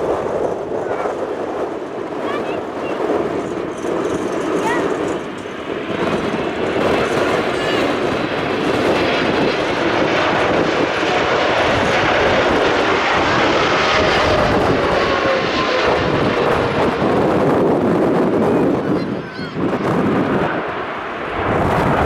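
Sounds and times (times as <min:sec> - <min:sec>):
jet engine whine falling in pitch: 0:00.0 - 0:22.0
jet engines running: 0:00.0 - 0:22.0.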